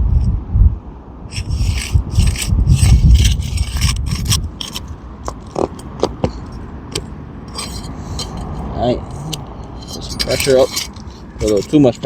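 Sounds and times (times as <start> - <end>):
low rumbling: 0.0 - 12.0
pry bar scraping shingles: 1.3 - 12.0.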